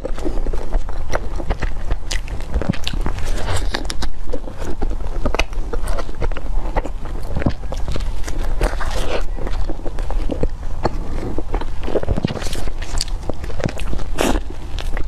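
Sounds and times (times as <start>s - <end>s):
wet chewing mouth clicks: 0.0s - 15.0s.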